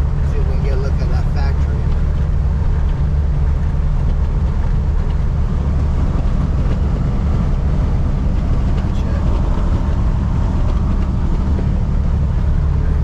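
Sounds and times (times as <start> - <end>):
diesel engine droning: 0.0 - 13.0
tyre and road noise: 0.0 - 13.0.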